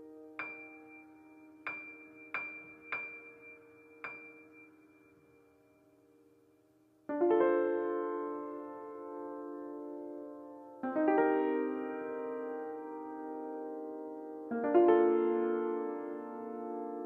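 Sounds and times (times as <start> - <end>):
piano chords and high notes: 0.0 - 6.1, 7.1 - 17.0.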